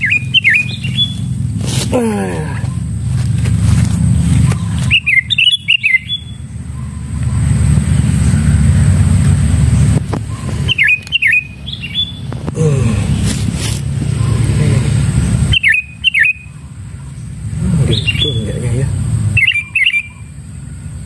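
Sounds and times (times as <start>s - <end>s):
bird chirps: 0.0s - 1.8s, 2.4s - 13.2s, 13.8s - 21.0s
steady low rumble: 0.0s - 21.0s.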